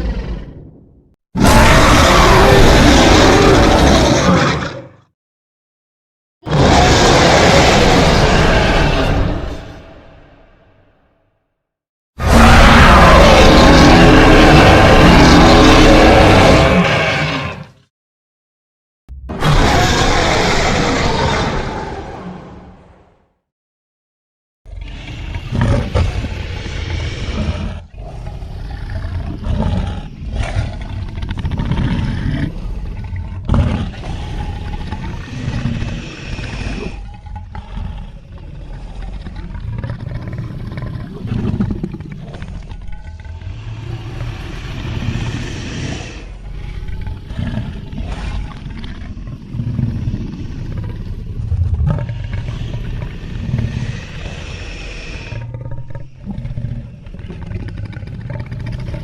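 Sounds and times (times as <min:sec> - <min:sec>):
dinosaur roars and growls: 0:00.0 - 0:05.1, 0:06.4 - 0:11.2, 0:12.2 - 0:17.8, 0:19.1 - 0:23.3, 0:24.7 - 0:59.0.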